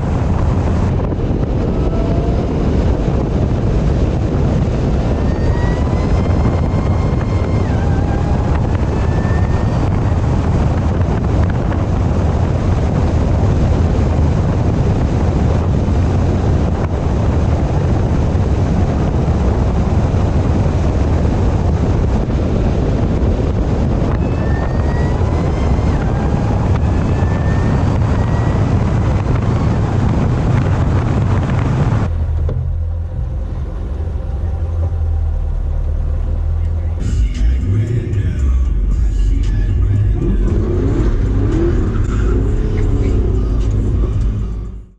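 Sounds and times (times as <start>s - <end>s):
car engine drone: 0.0s - 44.9s
supercharger whine: 0.0s - 44.9s
wind on microphone: 0.0s - 44.9s.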